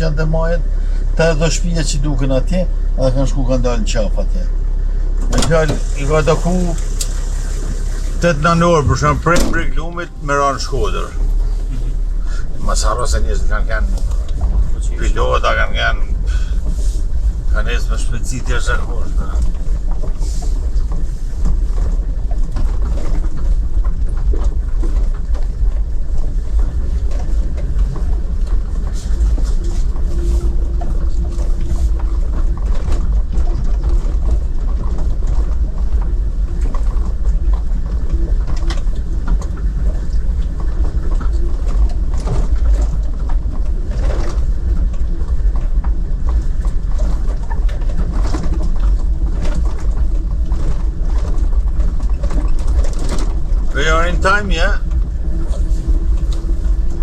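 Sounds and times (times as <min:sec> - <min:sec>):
car cabin road rumble: 0:00.0 - 0:57.0.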